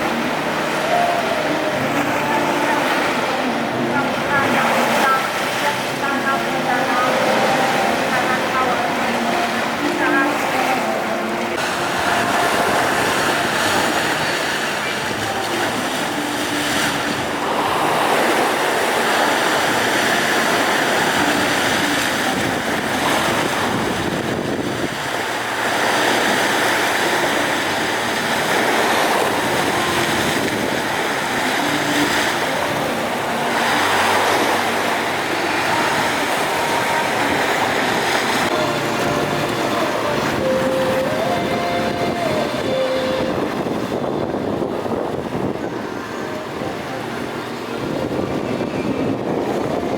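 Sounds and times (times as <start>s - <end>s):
rough sea waves: 0.0s - 49.9s
wind buffeting microphone: 1.3s - 49.9s.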